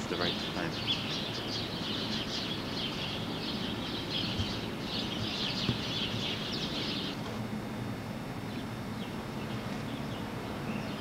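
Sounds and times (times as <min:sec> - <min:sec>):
small birds chirping: 0:00.0 - 0:07.4, 0:08.4 - 0:11.0
low city rumble: 0:00.0 - 0:11.0.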